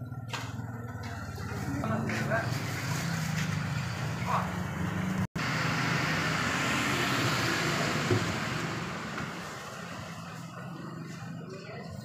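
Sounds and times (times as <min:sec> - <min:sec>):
vehicle engine humming: 0:00.0 - 0:12.0
rush of passing vehicles: 0:01.0 - 0:12.0.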